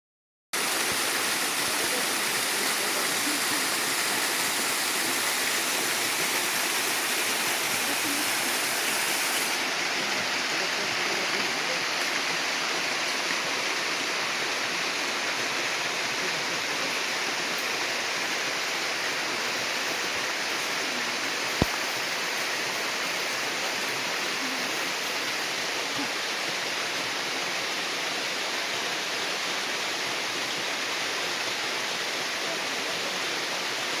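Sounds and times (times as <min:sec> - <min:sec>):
waterfall rushing: 0:00.6 - 0:34.0.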